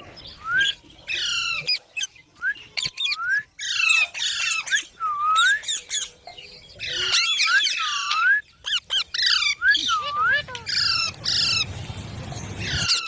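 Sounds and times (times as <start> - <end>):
parakeets squawking and screeching: 0.0 - 13.0.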